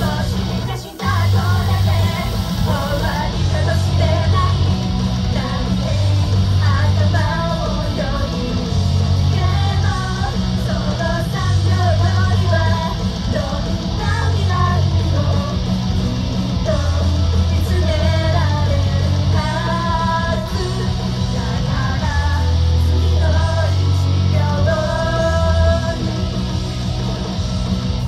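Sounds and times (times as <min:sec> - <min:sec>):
women singing: 0:00.0 - 0:26.6
heavy pulsing bass line: 0:00.0 - 0:28.0
live pop-rock music: 0:00.0 - 0:28.0.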